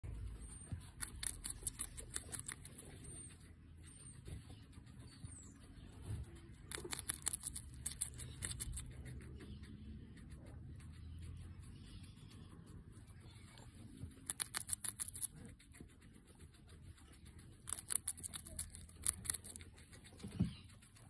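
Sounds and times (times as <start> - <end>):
guinea pig crunching pepper: 0.0 - 21.0.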